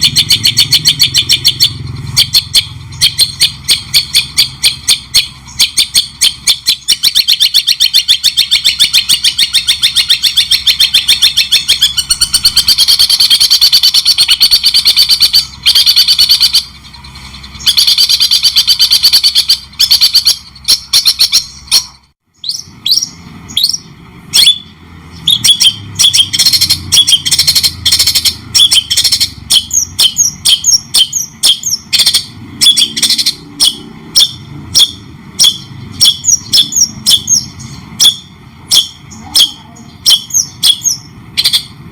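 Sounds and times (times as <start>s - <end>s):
bird whistled notes: 0.0s - 41.8s
bird chattering song: 0.0s - 41.9s.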